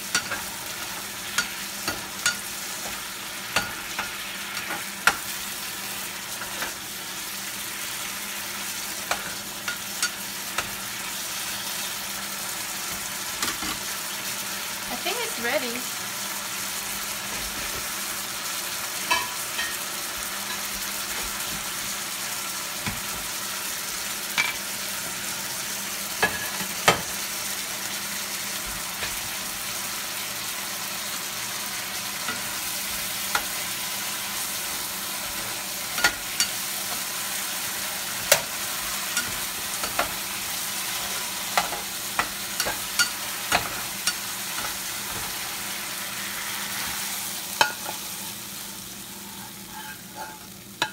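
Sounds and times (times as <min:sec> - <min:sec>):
shrimp sizzling in skillet: 0:00.0 - 0:50.9.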